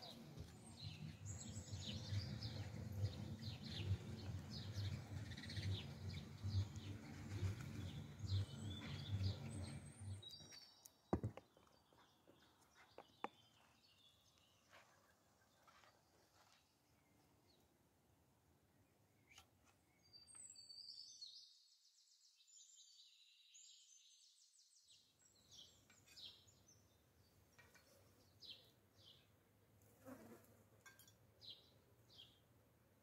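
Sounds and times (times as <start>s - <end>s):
faint birdsong trill: 0.0s - 17.8s, 18.7s - 29.4s, 30.8s - 32.6s.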